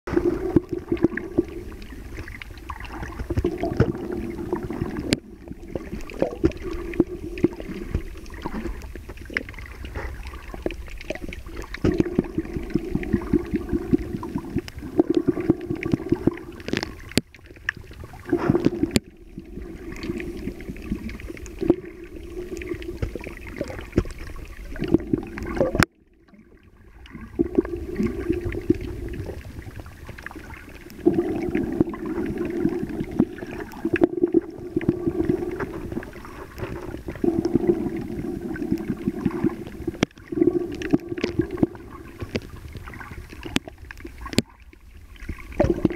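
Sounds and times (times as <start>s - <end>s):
water sloshing and gurgling: 0.0s - 45.9s
small crackles and clicks: 0.5s - 45.9s.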